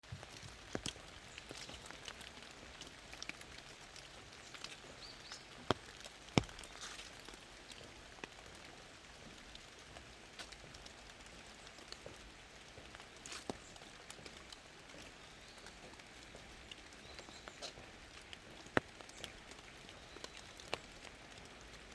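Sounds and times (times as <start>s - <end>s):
raindrops ticking on leaves: 0.0s - 21.9s
soft steady rain hiss: 0.0s - 21.9s.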